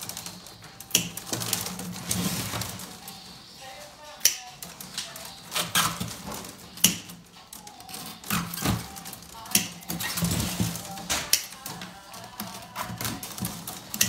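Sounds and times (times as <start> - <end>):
wicker clicks and knocks: 0.0 - 14.0
wicker rustling: 0.0 - 14.0.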